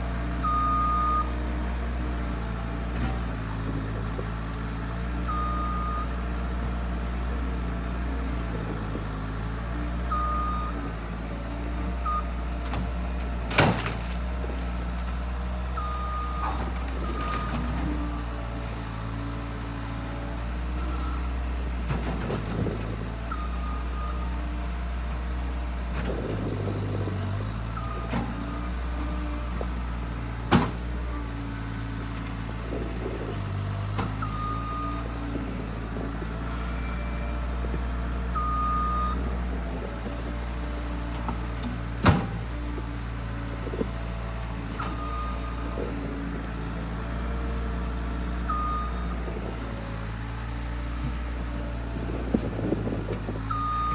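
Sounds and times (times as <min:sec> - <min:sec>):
skid loader engine running: 0:00.0 - 0:53.9.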